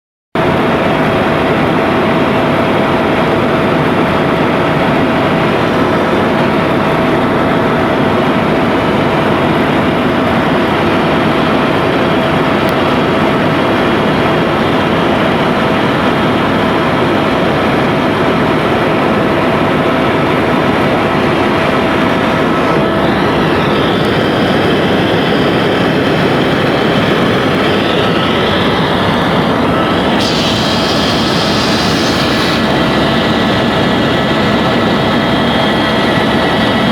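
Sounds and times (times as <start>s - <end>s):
helicopter rotor and engine: 0.4s - 36.9s.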